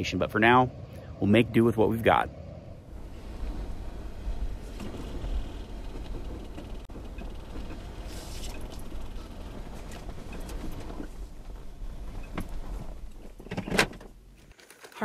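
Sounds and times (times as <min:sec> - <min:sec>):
car engine and tyre rumble on snow: 0:00.0 - 0:14.8.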